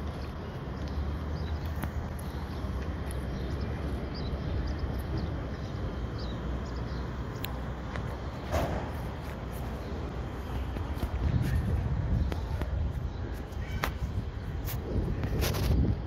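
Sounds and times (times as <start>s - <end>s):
steady low rumble: 1.9s - 16.0s.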